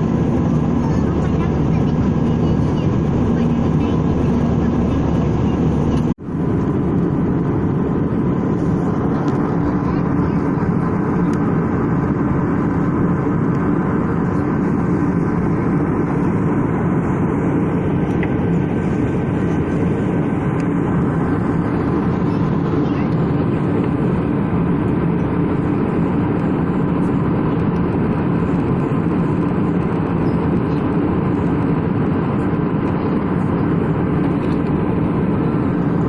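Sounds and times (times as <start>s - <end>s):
airliner cabin noise: 0.0s - 36.0s.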